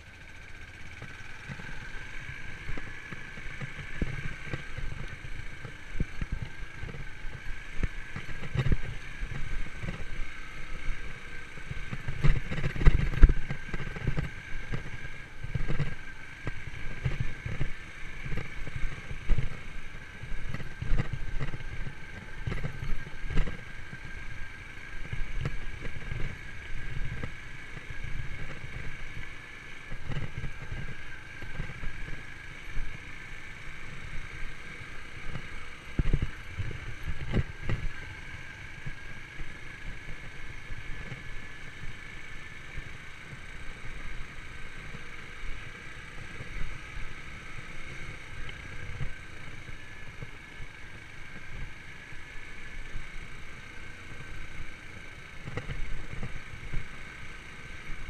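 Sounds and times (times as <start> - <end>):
motorcycle engine running: 0.0 - 58.0
wind rumble on microphone: 1.0 - 53.2.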